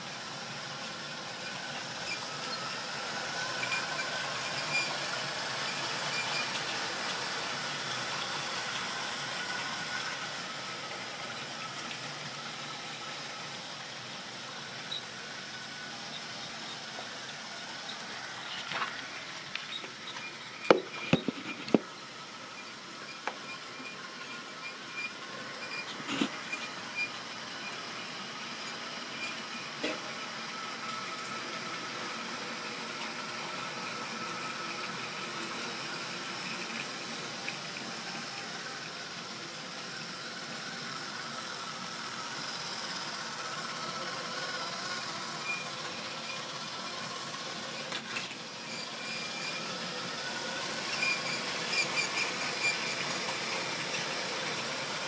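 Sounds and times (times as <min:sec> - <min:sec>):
model train running on track: 0:00.0 - 0:20.7, 0:21.8 - 0:55.0.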